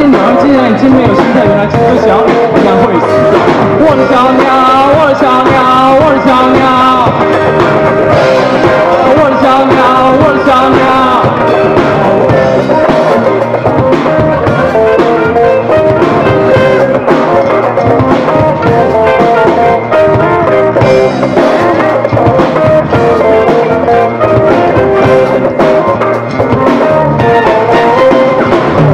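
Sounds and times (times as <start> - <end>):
rock band playing live: 0.0 - 28.9.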